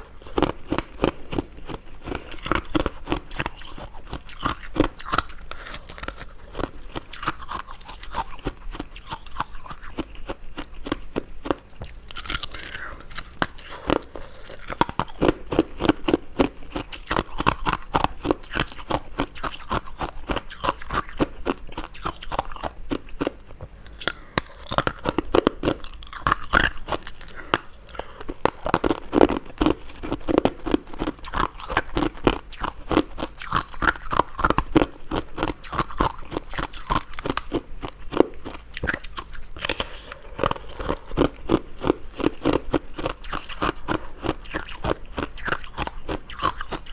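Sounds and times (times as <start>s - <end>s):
ice being chewed: 0.0s - 46.9s.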